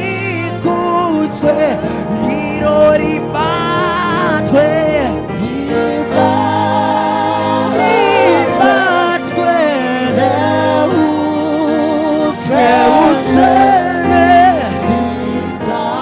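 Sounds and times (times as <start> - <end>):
gospel worship singing: 0.0 - 16.0
music: 0.0 - 16.0.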